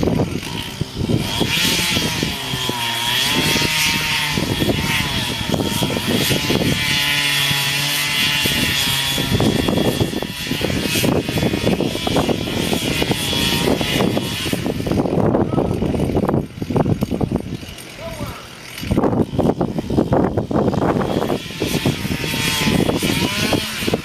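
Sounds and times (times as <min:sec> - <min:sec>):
chainsaw engine running: 0:00.0 - 0:24.0.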